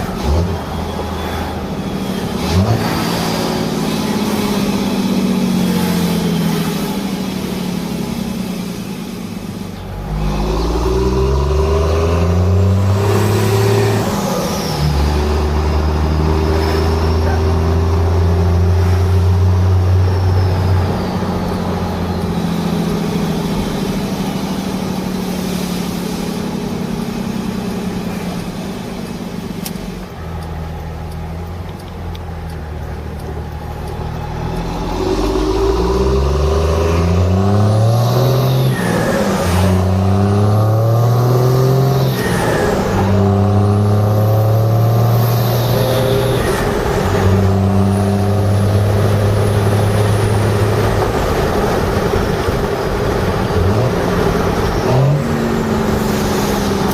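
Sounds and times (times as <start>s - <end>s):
diesel truck engine accelerating: 0.0s - 56.9s.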